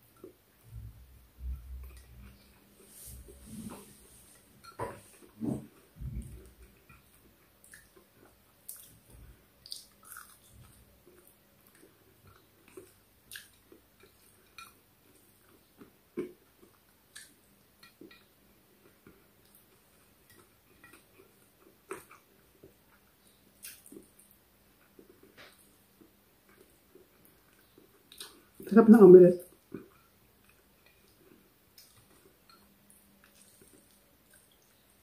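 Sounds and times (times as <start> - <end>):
person chewing food: 1.3 - 28.7, 29.5 - 35.0.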